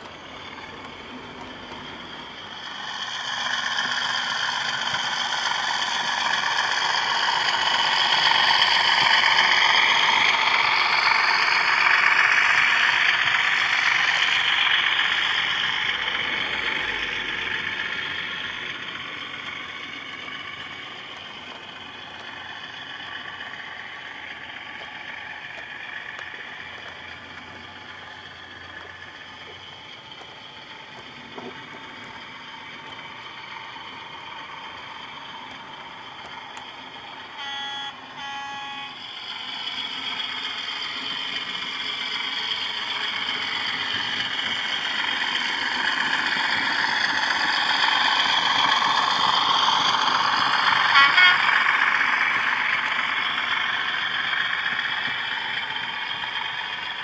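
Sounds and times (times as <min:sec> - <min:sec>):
model train wheels on rails: 0:00.0 - 0:57.0.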